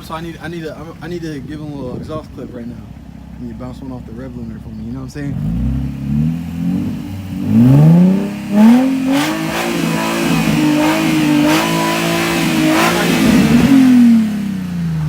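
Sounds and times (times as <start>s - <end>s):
exhaust cracks: 0.0s - 15.0s
car engine revving at limiter: 2.0s - 15.0s.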